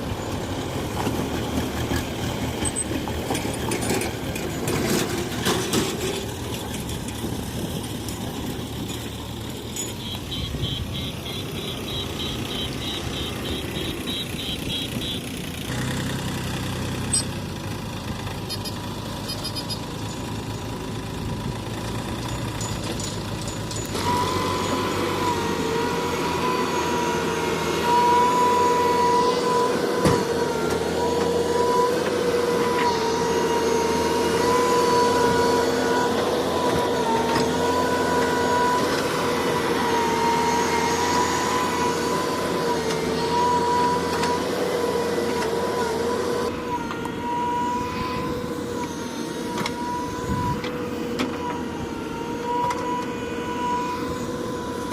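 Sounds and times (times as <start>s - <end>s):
heavy diesel machinery working: 0.0s - 54.9s
hydraulic whine: 0.0s - 54.9s.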